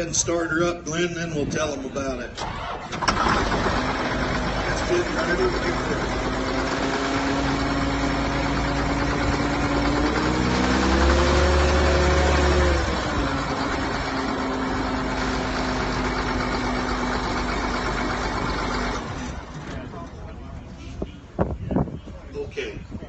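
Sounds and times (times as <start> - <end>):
tractor diesel engine idling: 1.4 - 21.4.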